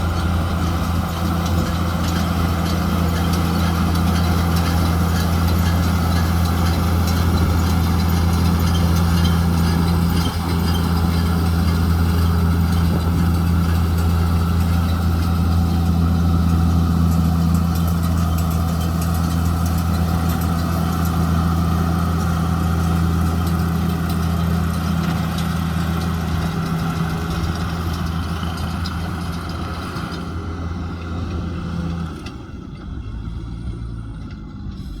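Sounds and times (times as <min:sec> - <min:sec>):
tractor engine humming: 0:00.0 - 0:35.0.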